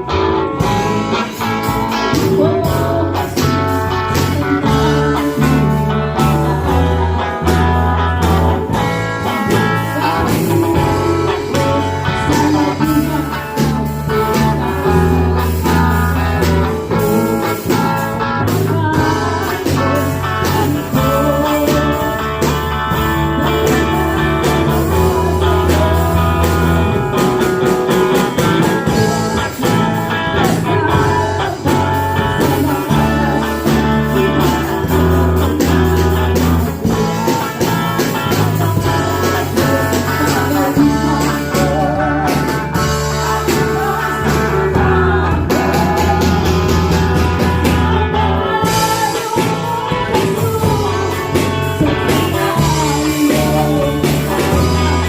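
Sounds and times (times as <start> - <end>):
bass and guitar chords: 0.0 - 55.0
drum kit beat: 0.0 - 55.0
person singing: 0.0 - 55.0.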